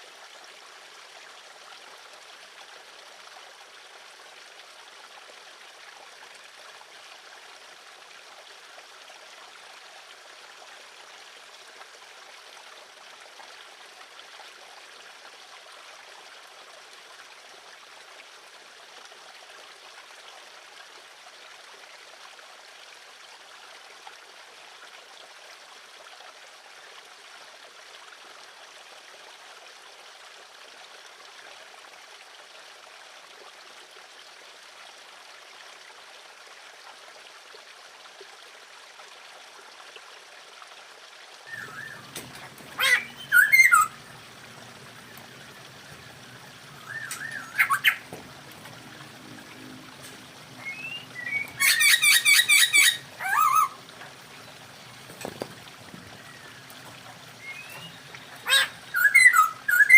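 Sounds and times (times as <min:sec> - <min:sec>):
steady rushing water: 0:00.0 - 0:59.9.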